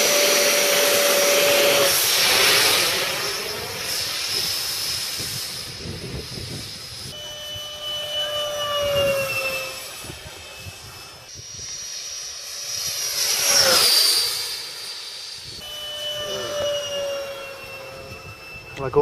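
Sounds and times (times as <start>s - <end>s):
electric ducted fan whining: 0.0s - 19.0s.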